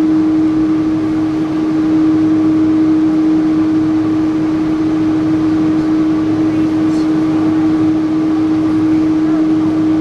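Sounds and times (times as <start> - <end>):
jet engines humming in cabin: 0.0 - 10.0.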